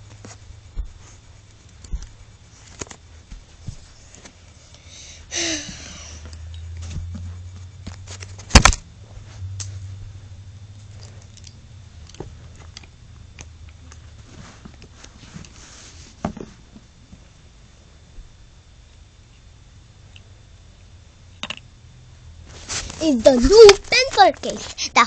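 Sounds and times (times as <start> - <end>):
low hum: 0.0 - 24.8.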